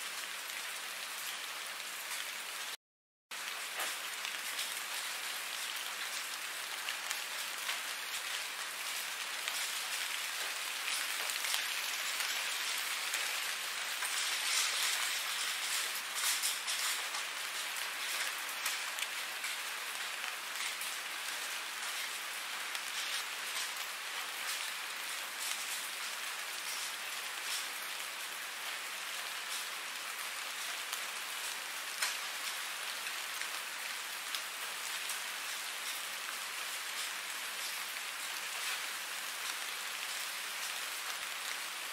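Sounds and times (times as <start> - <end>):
steady rain falling: 0.0 - 41.9
raindrops ticking: 3.4 - 41.7.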